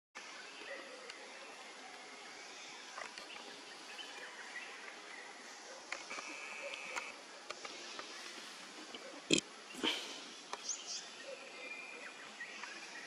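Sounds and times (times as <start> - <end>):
steady hiss: 0.2 - 13.0.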